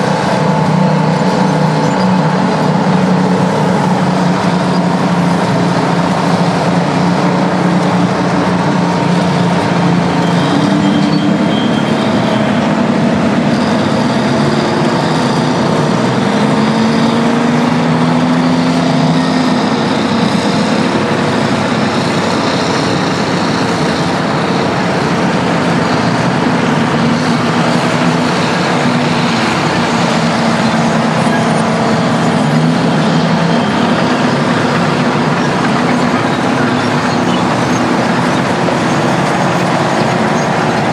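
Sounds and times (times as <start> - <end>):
heavy diesel engines under load: 0.0 - 40.9.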